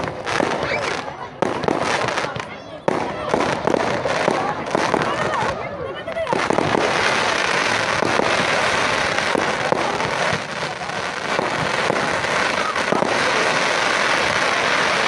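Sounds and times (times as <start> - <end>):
fireworks crackling: 0.0 - 15.0
fireworks cracks and pops: 0.0 - 15.0.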